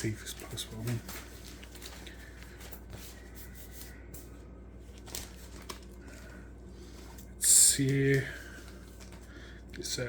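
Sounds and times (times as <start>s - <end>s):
paper and card rustling: 0.0s - 10.0s.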